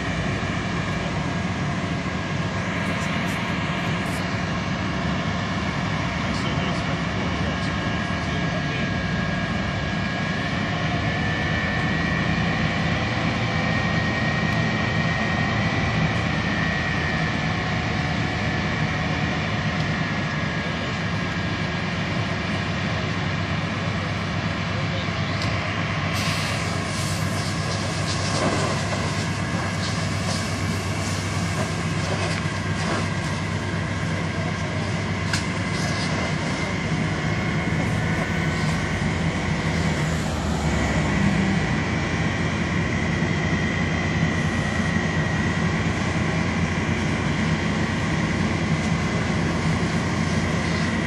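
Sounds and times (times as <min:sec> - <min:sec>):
heavy engine rumbling: 0:00.0 - 0:51.0.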